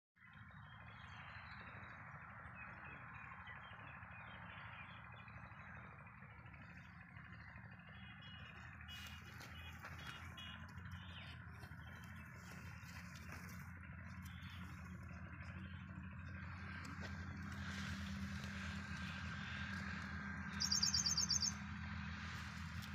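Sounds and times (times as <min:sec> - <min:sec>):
distant birds chirping: 0:00.3 - 0:21.6.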